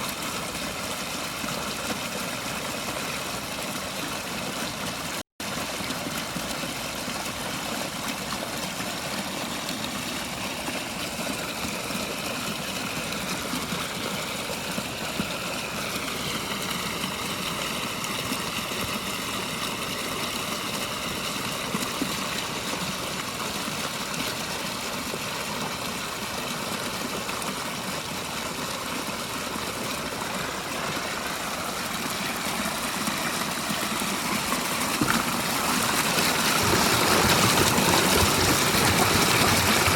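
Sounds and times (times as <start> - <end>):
waterfall splashing on rocks: 0.0 - 39.9.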